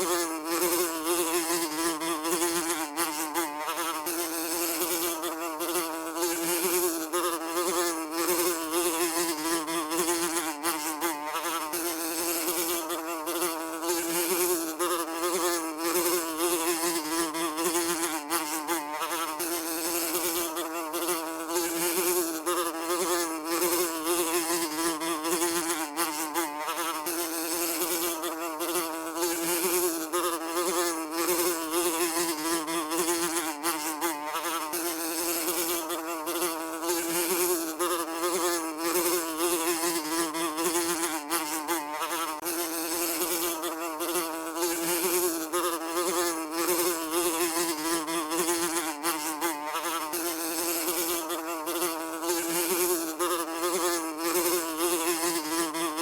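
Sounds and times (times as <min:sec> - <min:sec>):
housefly buzzing: 0:00.0 - 0:56.0.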